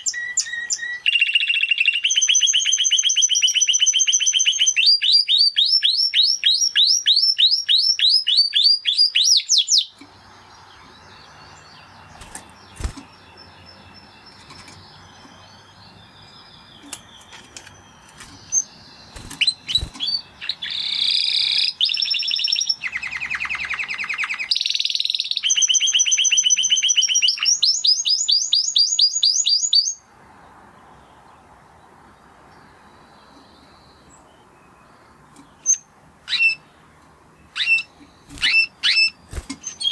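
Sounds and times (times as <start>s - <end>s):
canary singing: 0.0s - 30.0s, 32.7s - 39.9s.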